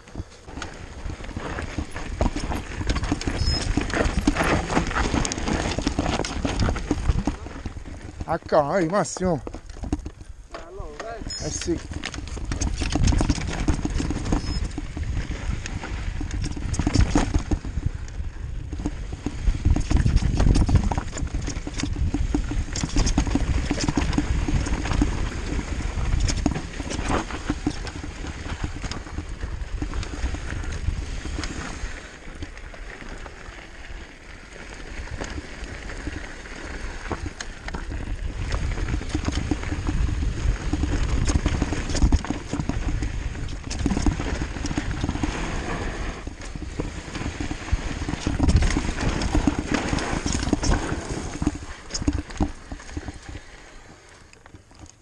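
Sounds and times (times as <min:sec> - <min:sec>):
bike tyres crunching over stones: 0:00.0 - 0:55.0
bike frame and chain rattling: 0:00.1 - 0:53.4.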